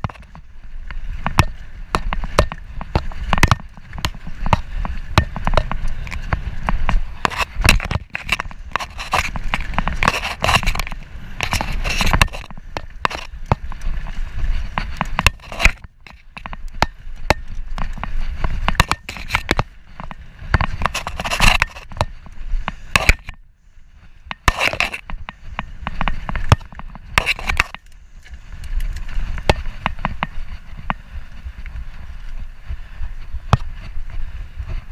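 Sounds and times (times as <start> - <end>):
mountain bike rattling and clicking: 0.0 - 34.9
tyres and wind rumbling: 0.0 - 34.9.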